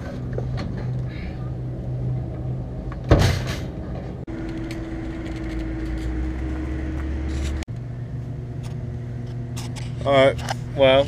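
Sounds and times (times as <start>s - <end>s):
low vehicle engine hum: 0.0s - 11.0s.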